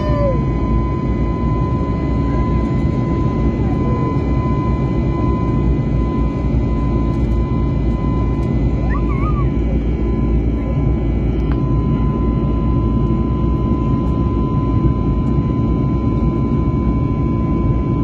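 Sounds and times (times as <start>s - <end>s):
jet engine and airflow rush: 0.0s - 18.0s.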